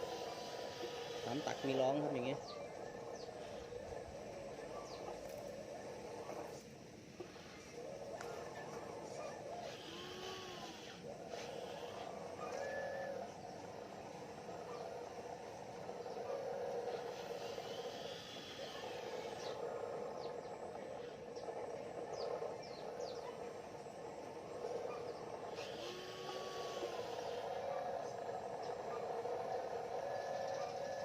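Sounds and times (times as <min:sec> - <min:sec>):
small electric motors whining: 0:00.0 - 0:31.0.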